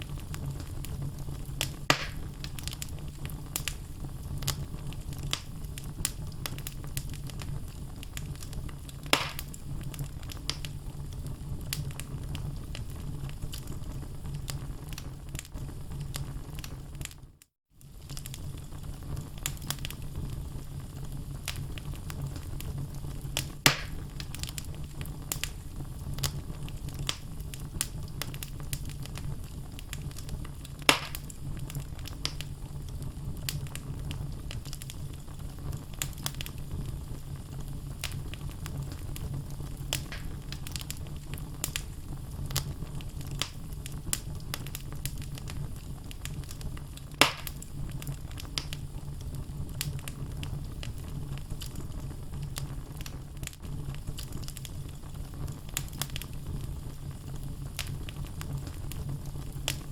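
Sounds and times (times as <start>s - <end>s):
loud fire pops: 0.0s - 17.2s, 17.8s - 59.9s
low rumble of flame: 0.0s - 59.9s
wood fire crackles: 0.0s - 59.9s.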